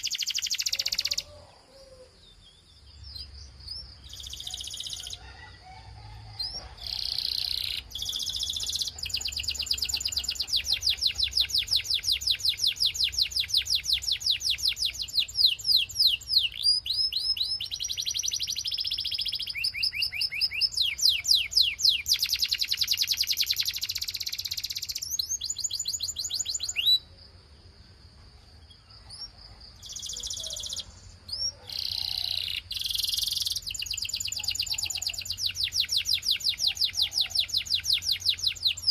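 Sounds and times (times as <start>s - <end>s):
canary singing trills: 0.0s - 27.4s, 28.5s - 38.9s.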